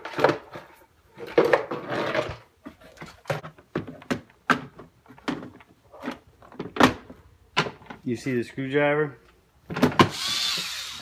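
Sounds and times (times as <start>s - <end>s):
rustling and handling noise: 0.0s - 10.0s.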